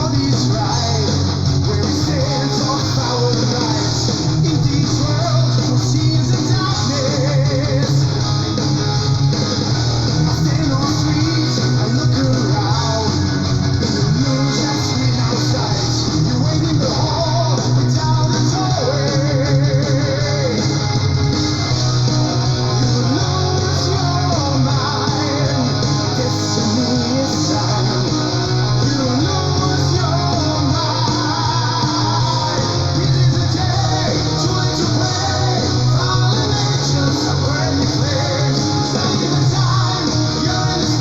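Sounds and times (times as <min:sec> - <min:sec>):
metal song with electric guitars: 0:00.0 - 0:41.0.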